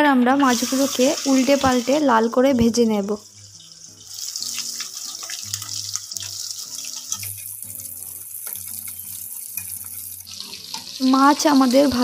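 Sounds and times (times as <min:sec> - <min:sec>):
background music: 0:00.0 - 0:12.0
fish frying in oil: 0:00.3 - 0:12.0.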